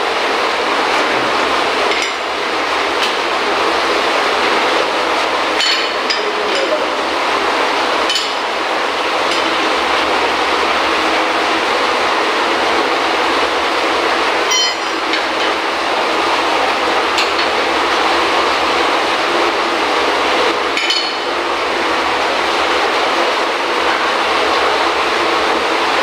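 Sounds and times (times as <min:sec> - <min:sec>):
loud machinery noise: 0:00.0 - 0:26.0.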